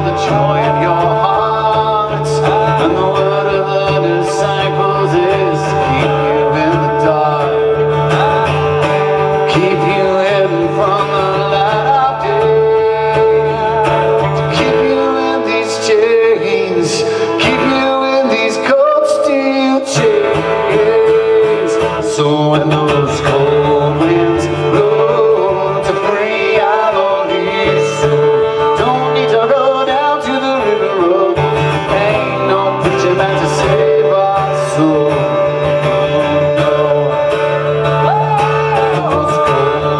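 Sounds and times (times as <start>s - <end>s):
acoustic guitar strumming: 0.0s - 39.9s
man singing: 0.0s - 39.9s.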